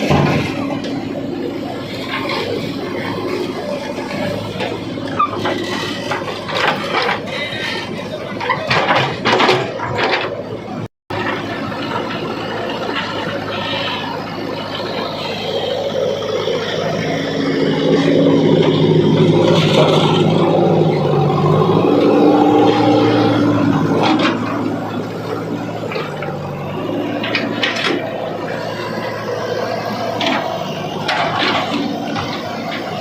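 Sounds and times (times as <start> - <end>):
diesel engine under load: 0.0 - 33.0.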